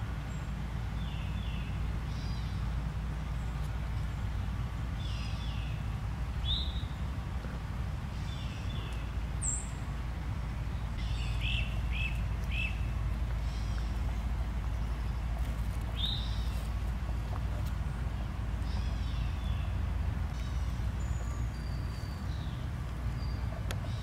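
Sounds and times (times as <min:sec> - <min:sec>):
steady low rumble: 0:00.0 - 0:24.0
wild birds chirping: 0:00.0 - 0:24.0.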